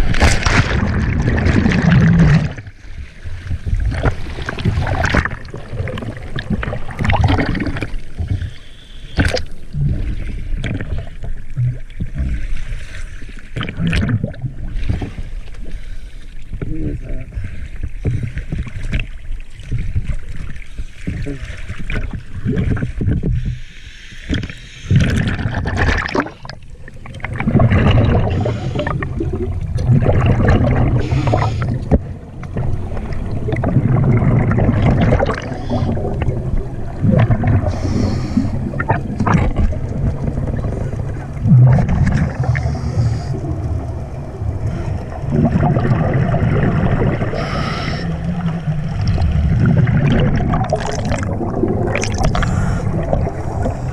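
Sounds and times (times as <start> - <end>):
water sloshing and bubbling: 0.0 - 53.9.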